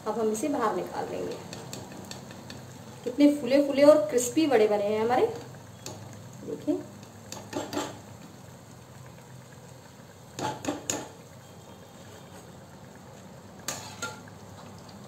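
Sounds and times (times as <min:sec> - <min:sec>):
oil sizzling and bubbling: 0:00.0 - 0:15.0.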